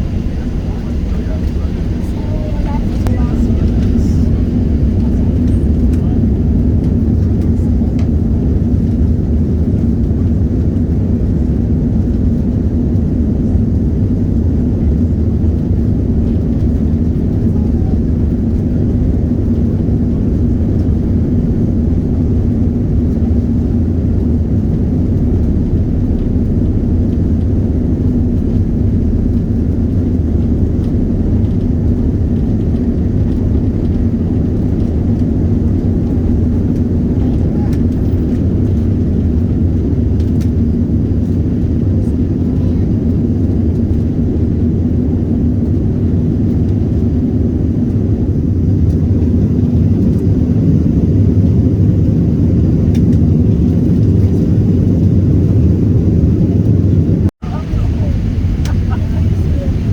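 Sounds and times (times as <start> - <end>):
jet cabin rumble with hum: 0.0 - 59.9.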